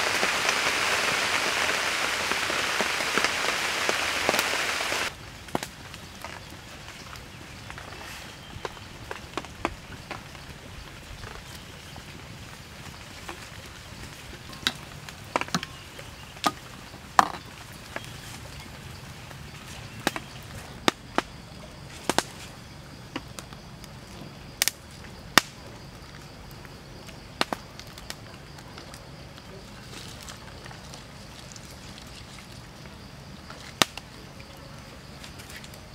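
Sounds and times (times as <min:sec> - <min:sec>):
steady hiss: 0:00.0 - 0:35.9.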